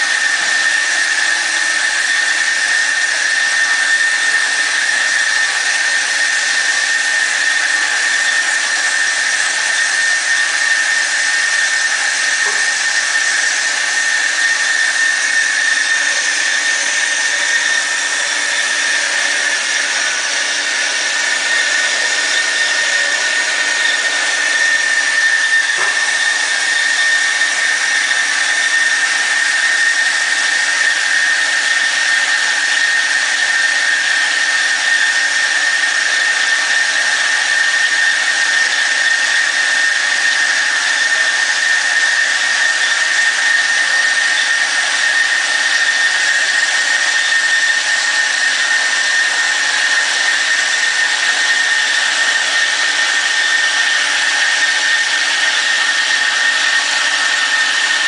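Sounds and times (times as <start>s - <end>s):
band saw whining: 0.0s - 58.0s.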